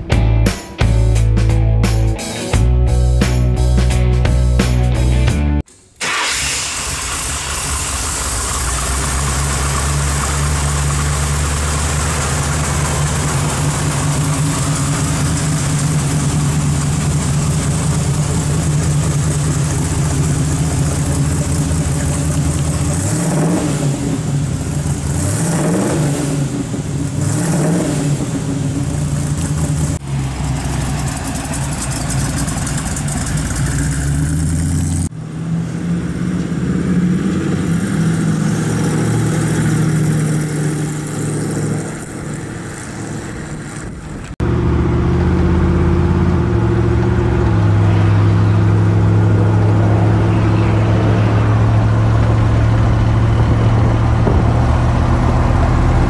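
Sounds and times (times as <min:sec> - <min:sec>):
car engine idling and revving: 0:06.0 - 0:56.0.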